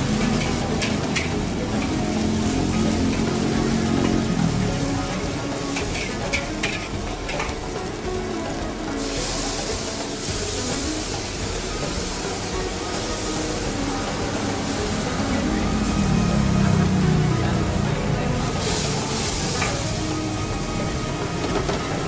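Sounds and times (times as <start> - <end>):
food sizzling in a wok: 0.0 - 22.0
metal spatula scraping a wok: 0.0 - 22.0.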